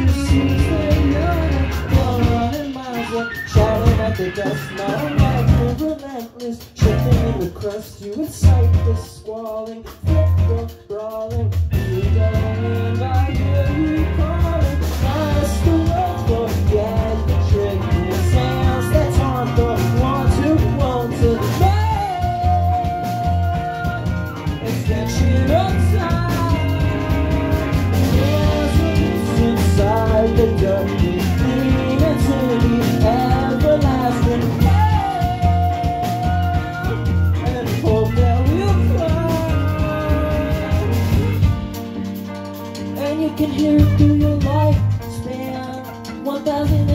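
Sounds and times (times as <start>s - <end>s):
person singing: 0.0s - 41.8s, 42.7s - 46.9s
rock band playing live: 0.0s - 46.9s.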